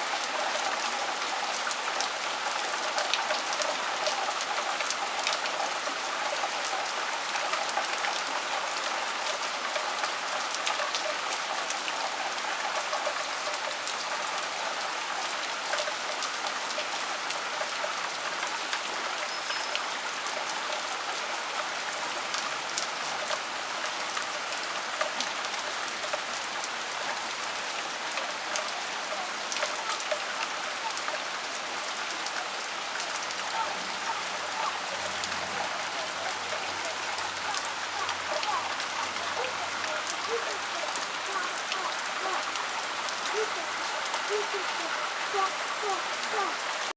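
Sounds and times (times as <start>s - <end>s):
rain drop hits: 0.0s - 46.9s
steady rain hiss: 0.0s - 46.9s.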